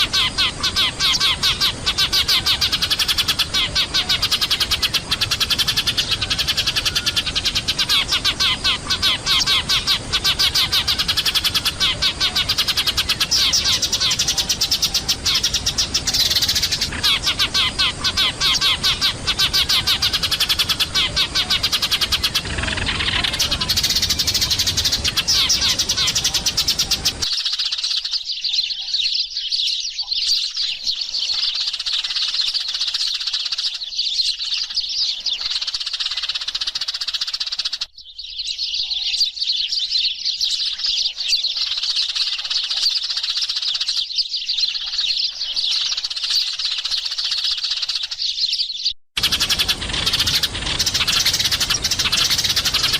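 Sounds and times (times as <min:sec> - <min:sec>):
sparrows chattering: 0:00.0 - 0:52.9.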